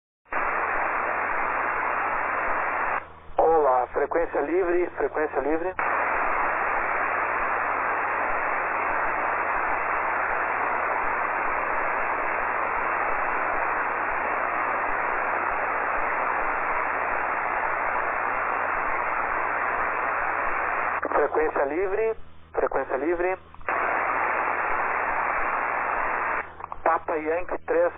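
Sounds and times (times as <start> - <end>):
radio receiver hiss: 0.3 - 27.9.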